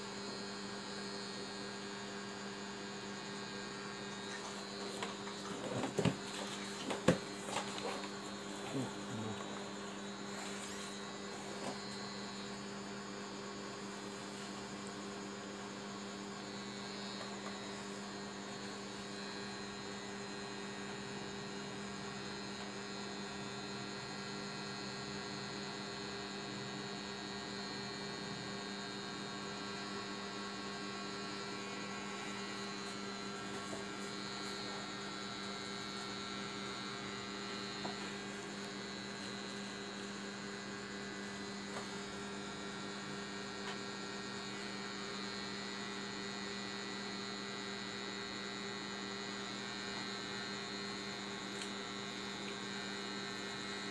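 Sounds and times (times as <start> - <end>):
tattoo machine humming: 0.0 - 53.9.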